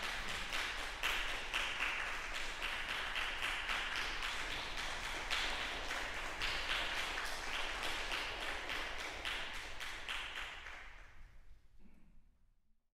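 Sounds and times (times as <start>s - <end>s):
audience clapping: 0.0s - 11.2s.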